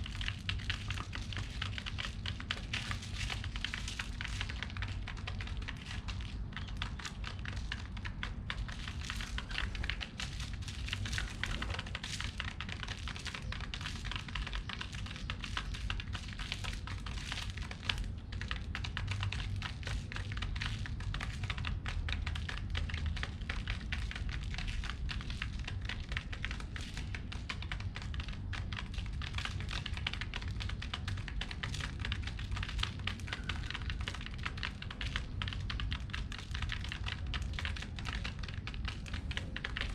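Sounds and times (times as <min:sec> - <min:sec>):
pigeons pecking at seeds: 0:00.0 - 0:39.9.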